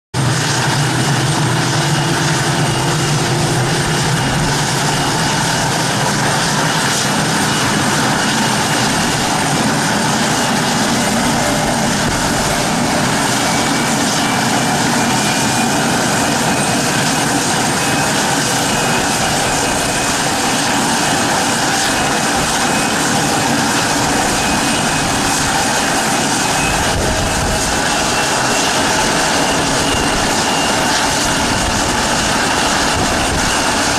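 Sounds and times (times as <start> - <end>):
high engine whine: 0.2 - 33.9
jet engines rushing: 0.2 - 33.9.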